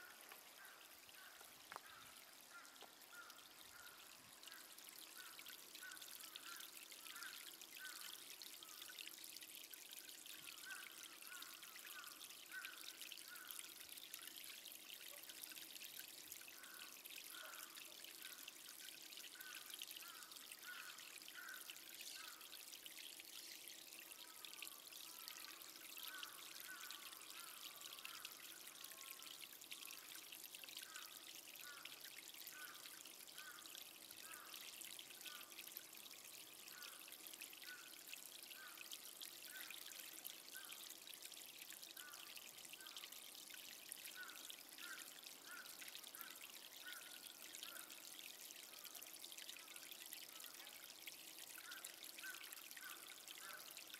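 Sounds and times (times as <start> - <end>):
trickle of running water: 0.0 - 53.9.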